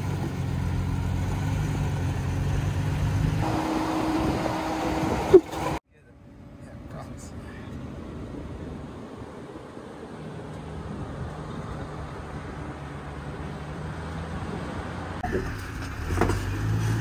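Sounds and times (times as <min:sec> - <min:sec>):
engine low drone: 0:00.0 - 0:17.0.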